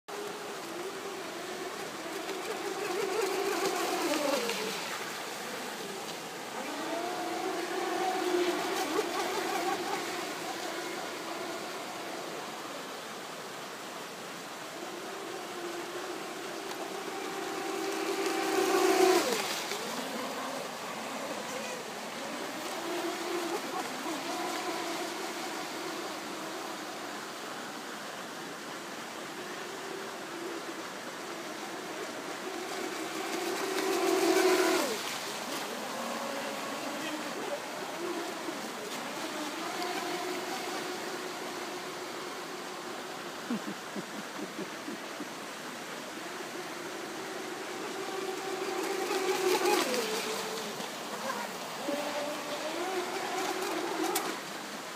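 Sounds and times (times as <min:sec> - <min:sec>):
steady hiss: 0:00.1 - 0:54.9.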